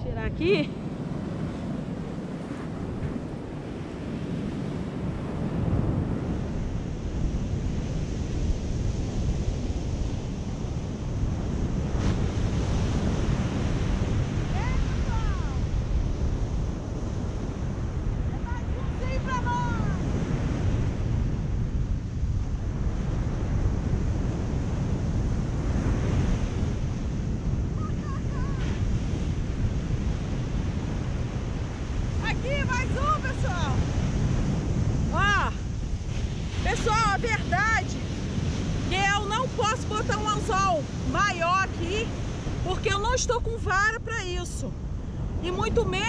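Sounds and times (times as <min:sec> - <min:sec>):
wind on microphone: 0:00.0 - 0:46.0
surf breaking on beach: 0:00.4 - 0:46.0.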